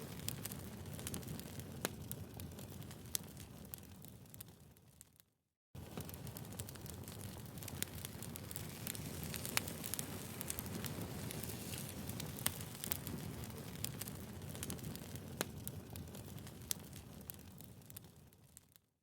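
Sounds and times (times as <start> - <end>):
low rumble of flames: 0.0 - 5.1, 5.8 - 18.9
firewood crackling and popping: 0.0 - 18.9.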